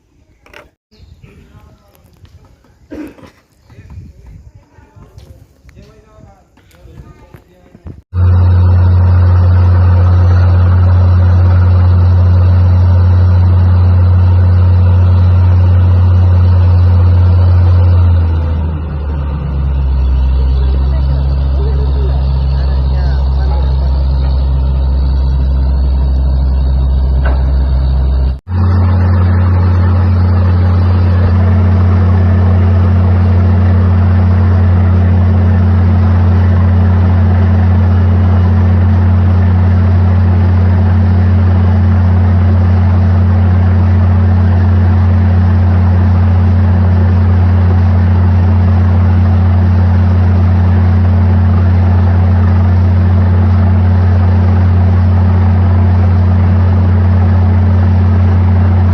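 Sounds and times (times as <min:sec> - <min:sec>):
drilling rig engine drone: 0:08.1 - 0:58.9.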